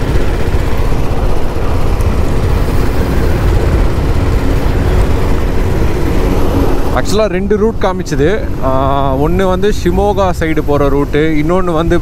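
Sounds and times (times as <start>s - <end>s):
motorcycle engine hum: 0.0s - 12.0s
road noise: 0.0s - 12.0s
wind rumble: 0.0s - 12.0s.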